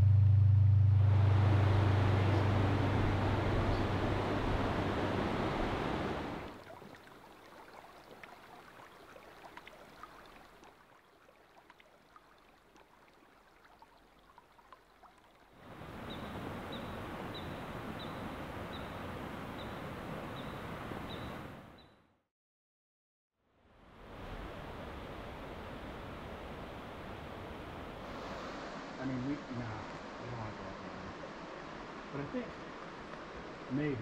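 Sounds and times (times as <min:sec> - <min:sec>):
stream water rushing: 0:00.9 - 0:21.6, 0:24.0 - 0:34.0.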